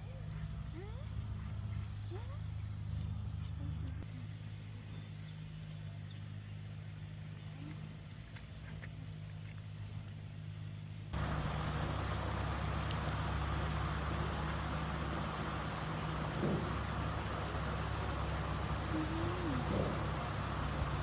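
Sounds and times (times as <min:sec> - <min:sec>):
engine-like hum: 0:00.0 - 0:21.0.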